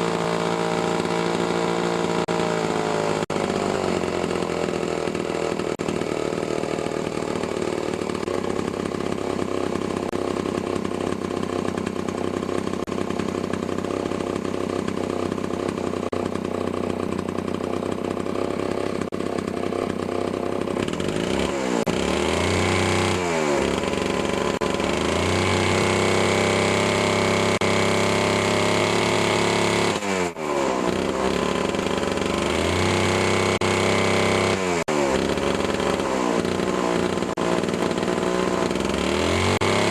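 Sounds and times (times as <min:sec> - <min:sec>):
chainsaw engine running and revving: 0:00.0 - 0:39.9.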